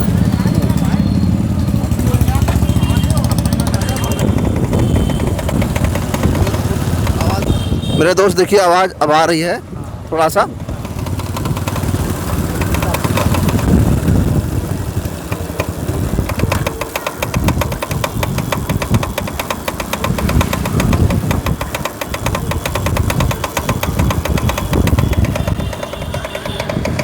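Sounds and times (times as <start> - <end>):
rear wheel clattering: 0.0 - 8.5, 10.6 - 27.0
motorcycle engine running: 0.0 - 8.8, 10.1 - 27.0.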